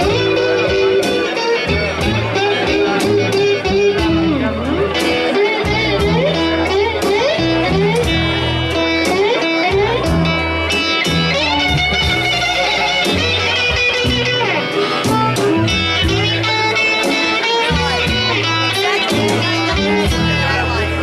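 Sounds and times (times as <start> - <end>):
bass line: 0.0 - 21.0
drums with cymbals: 0.0 - 21.0
electric guitar bending notes: 0.0 - 21.0.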